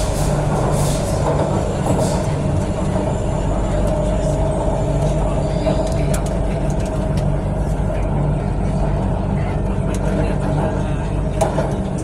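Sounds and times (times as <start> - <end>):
steady train hum: 0.0 - 12.0
train wheels rumbling on track: 0.0 - 12.0.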